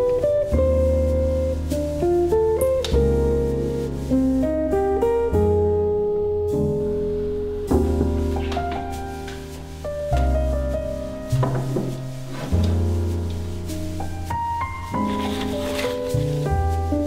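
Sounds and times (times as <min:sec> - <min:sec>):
low bass line: 0:00.0 - 0:15.1.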